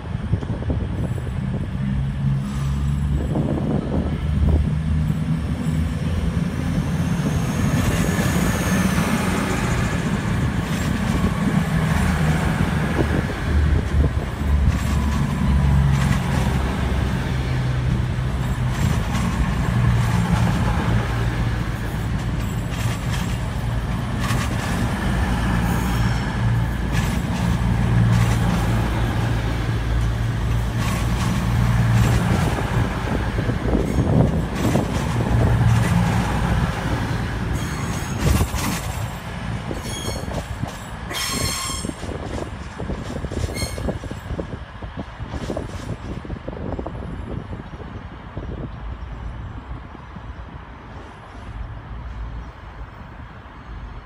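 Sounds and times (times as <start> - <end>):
train diesel engines droning: 0.0 - 54.0.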